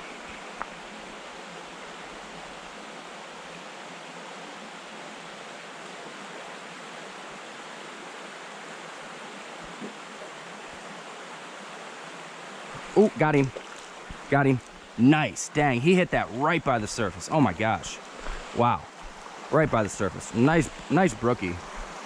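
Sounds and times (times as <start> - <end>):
rocky stream rushing: 0.0 - 22.0.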